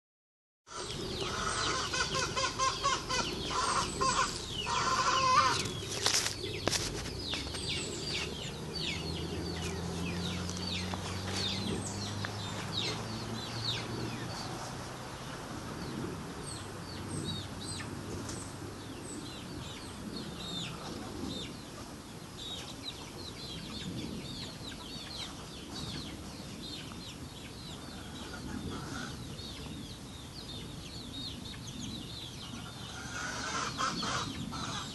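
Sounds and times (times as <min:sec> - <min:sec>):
chickens clucking and squawking: 0:00.7 - 0:30.8, 0:32.4 - 0:34.9.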